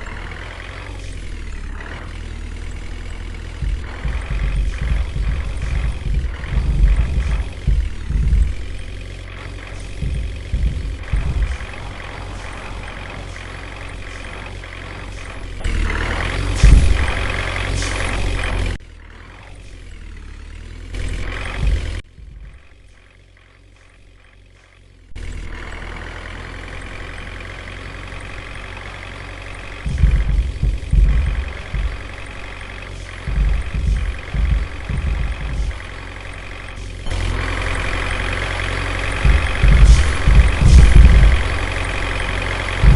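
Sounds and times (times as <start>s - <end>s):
low thumps and bumps: 0.0s - 18.8s, 20.9s - 22.8s, 25.1s - 42.9s
truck engine running: 0.0s - 42.9s.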